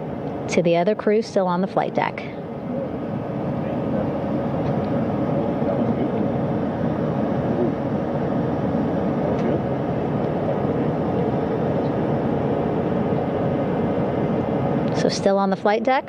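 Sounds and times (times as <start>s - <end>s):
engine rumble and hiss: 2.2s - 15.2s.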